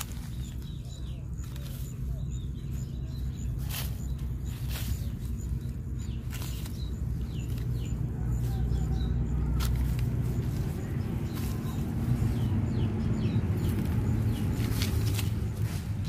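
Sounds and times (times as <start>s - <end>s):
dog rustling through grass: 0.0s - 12.6s, 13.5s - 16.0s
steady low rumble: 0.0s - 16.0s.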